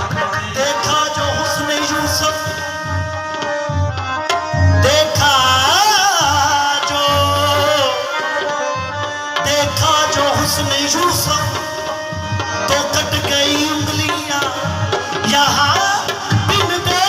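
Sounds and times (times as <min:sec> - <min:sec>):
harmonium notes: 0:00.0 - 0:17.0
tabla rhythm: 0:00.0 - 0:17.0.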